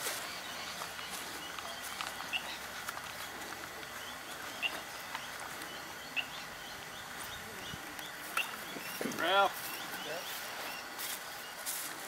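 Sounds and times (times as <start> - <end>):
bird chirping high calls: 0.0 - 11.7
steady outdoor hiss: 0.0 - 12.0.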